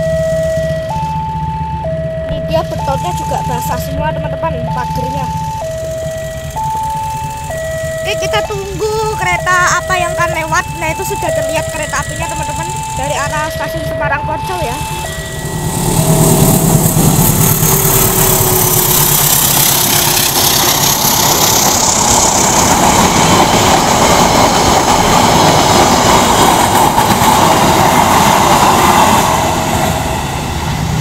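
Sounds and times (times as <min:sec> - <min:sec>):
faint crossing warning siren: 0:00.0 - 0:31.0
locomotive engine: 0:00.0 - 0:31.0
train wheels roaring on rails: 0:00.0 - 0:31.0.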